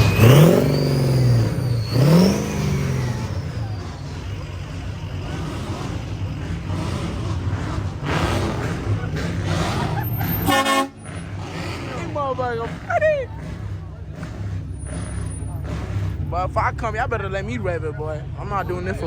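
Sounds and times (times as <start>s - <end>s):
car engine revving: 0.0s - 19.0s
steady engine noise: 0.0s - 19.0s.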